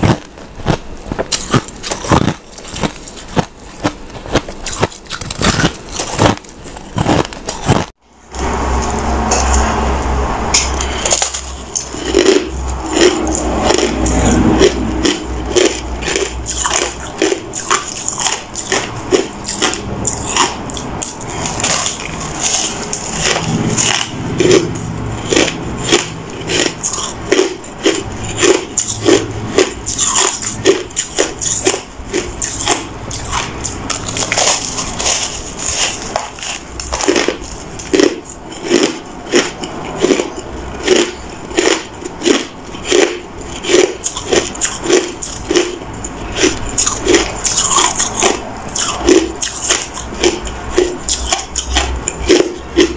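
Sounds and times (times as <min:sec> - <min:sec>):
crunching ice: 0:00.0 - 0:07.9, 0:10.8 - 0:52.9.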